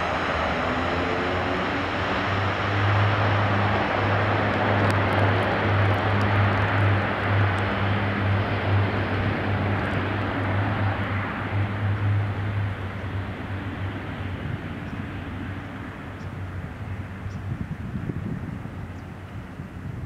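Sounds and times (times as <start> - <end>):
engines rushing: 0.0 - 17.2
propeller drone: 0.0 - 20.0.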